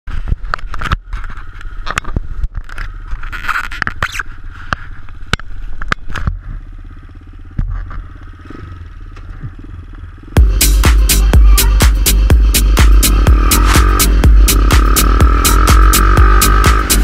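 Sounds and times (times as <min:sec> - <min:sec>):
quad engine running: 0:00.2 - 0:17.0.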